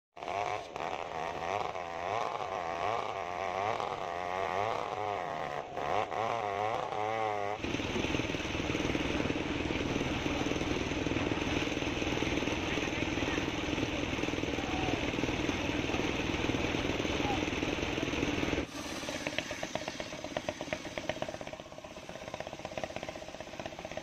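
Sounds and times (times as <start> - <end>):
chainsaw cutting log: 0.2 - 24.0
rough mechanical noise: 0.2 - 24.0.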